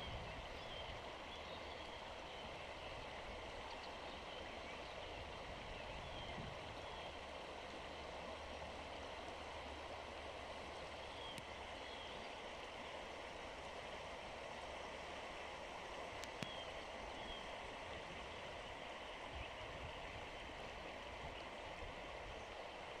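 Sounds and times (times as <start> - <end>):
river water running over stones: 0.0 - 23.0.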